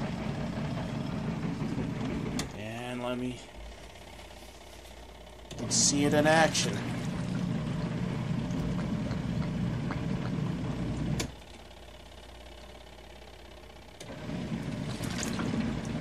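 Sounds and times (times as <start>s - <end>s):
washing machine motor churning: 0.0s - 16.0s.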